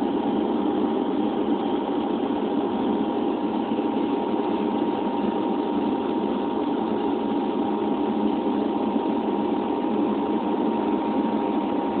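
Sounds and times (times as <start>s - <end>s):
constant cabin hum: 0.0s - 12.0s.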